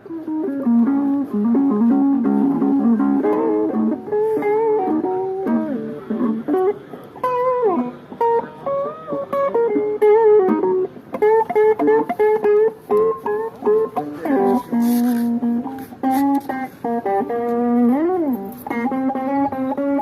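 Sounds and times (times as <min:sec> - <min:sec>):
plucked guitar melody: 0:00.0 - 0:20.0.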